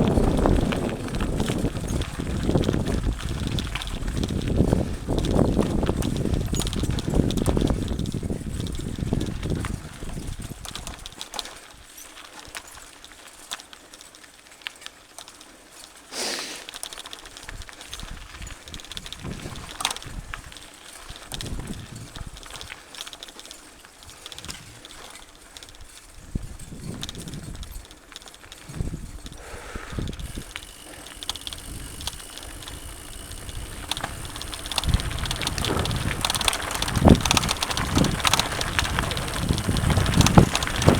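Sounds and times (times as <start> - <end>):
bike clicks and rattles: 0.0 - 40.9
bike rolling on dirt trail: 0.0 - 40.9.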